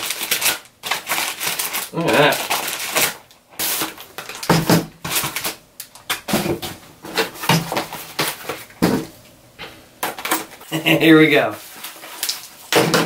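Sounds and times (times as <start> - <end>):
plastic air packaging crinkling: 0.0 - 9.1, 10.0 - 13.0.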